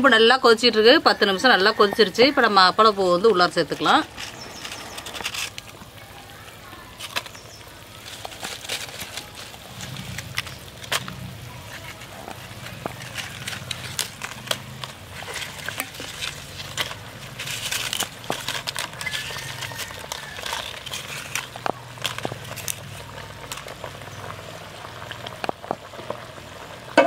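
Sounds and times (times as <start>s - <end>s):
crackles of fried papads: 0.0s - 27.0s
curry bubbling at a boil: 0.0s - 27.0s.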